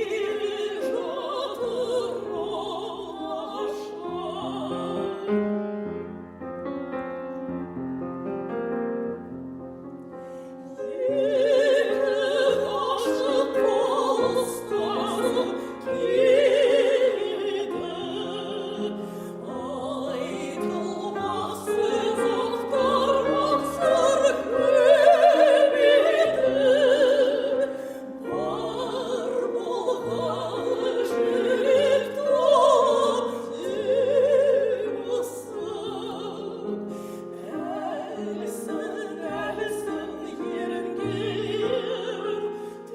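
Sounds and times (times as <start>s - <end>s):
operatic voice singing with vibrato: 0.0s - 5.6s, 10.8s - 42.9s
piano accompaniment: 0.0s - 42.9s.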